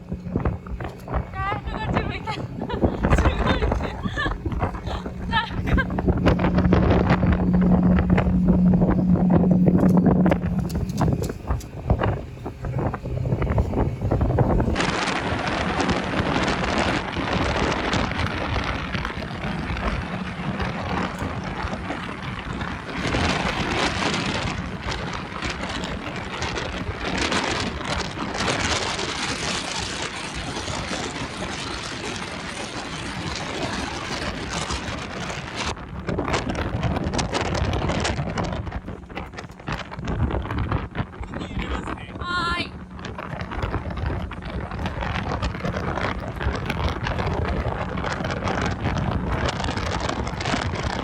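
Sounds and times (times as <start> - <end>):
water splashing: 0.0 - 41.7
motorboat engine drone: 0.0 - 51.0
wind rushing: 0.0 - 51.0.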